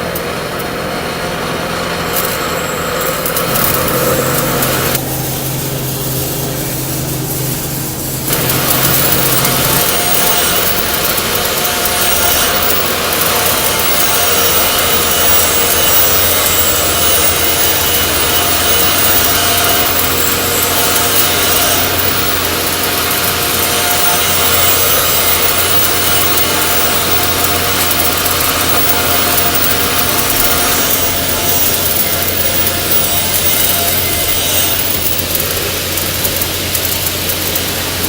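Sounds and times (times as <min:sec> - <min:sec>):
steady low hum: 0:00.0 - 0:38.0
welding arc crackling: 0:00.0 - 0:38.0.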